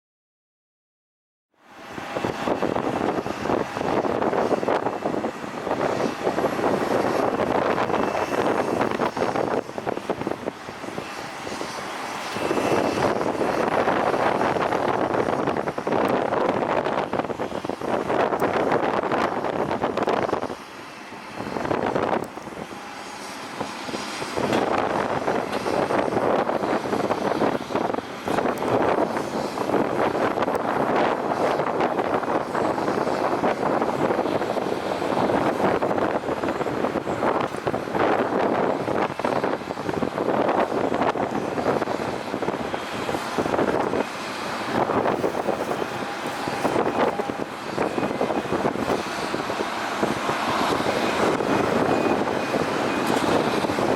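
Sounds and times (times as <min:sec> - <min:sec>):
jet engines running: 0:01.6 - 0:53.9.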